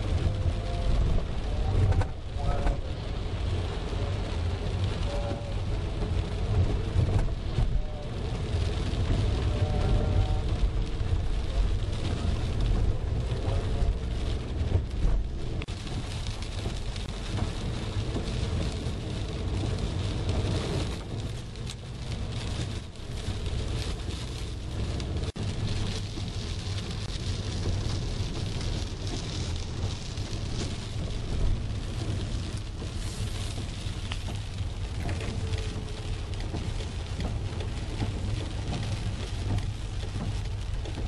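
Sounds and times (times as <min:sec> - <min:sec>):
low car rumble: 0:00.0 - 0:41.0
rain and tyres on wet road: 0:00.0 - 0:41.0.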